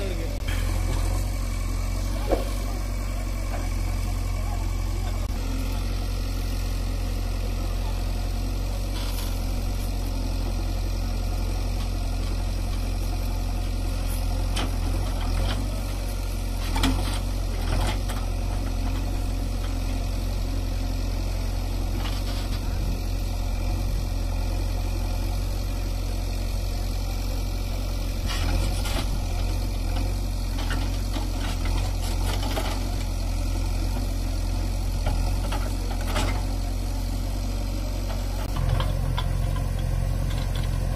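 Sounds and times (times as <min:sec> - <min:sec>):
diesel engine running at low revs: 0:00.0 - 0:40.9.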